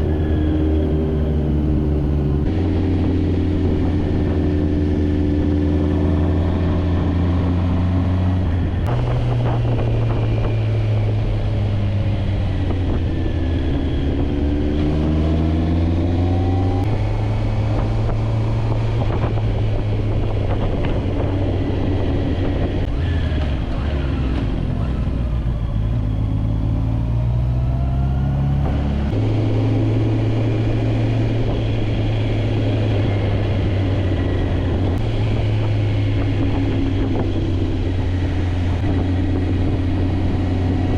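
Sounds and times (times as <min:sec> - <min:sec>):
motorcycle engine revving: 0:00.0 - 0:40.9
road and wind noise: 0:00.0 - 0:40.9.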